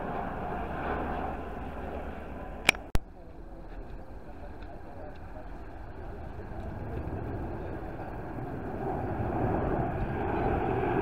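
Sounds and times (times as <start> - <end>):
jet airliner engine rumble: 0.0 - 11.0.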